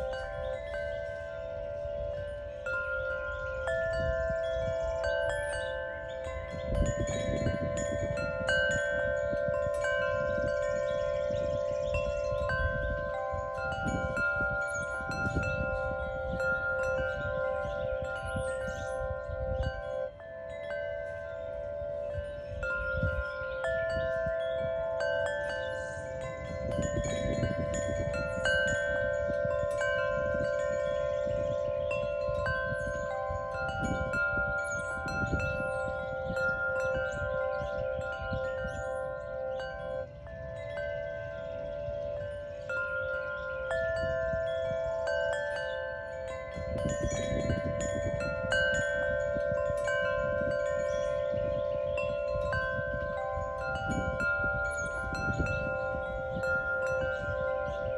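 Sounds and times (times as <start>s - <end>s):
wind chimes ringing: 0.0s - 57.9s
wind gusts on microphone: 0.0s - 57.9s.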